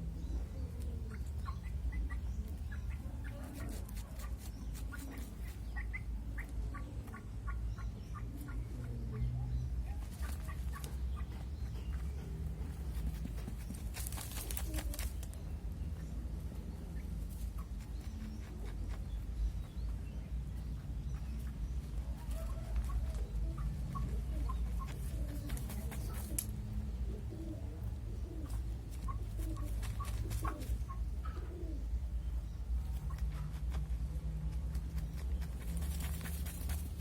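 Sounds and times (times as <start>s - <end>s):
chickens clucking softly: 0.0s - 37.0s.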